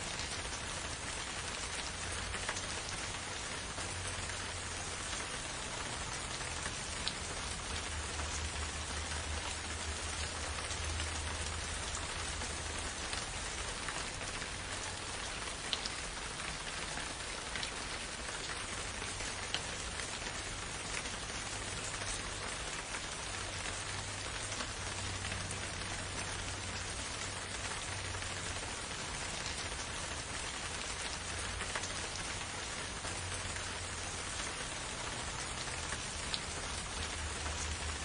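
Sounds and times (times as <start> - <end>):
raindrop ticks: 0.0 - 38.0
steady rain hiss: 0.0 - 38.0.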